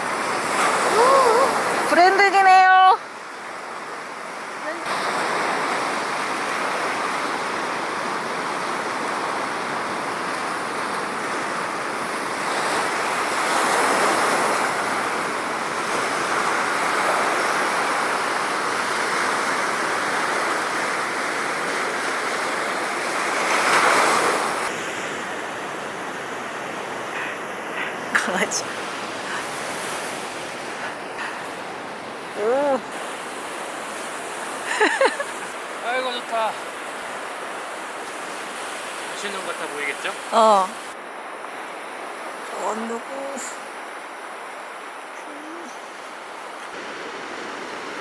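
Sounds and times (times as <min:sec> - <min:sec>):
ocean waves breaking: 0:00.0 - 0:48.0.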